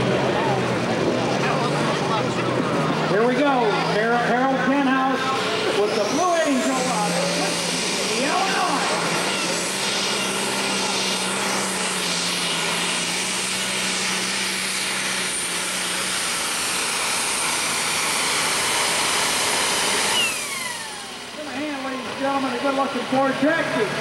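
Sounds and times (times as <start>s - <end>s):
tractor diesel engine roaring: 0.0s - 24.0s.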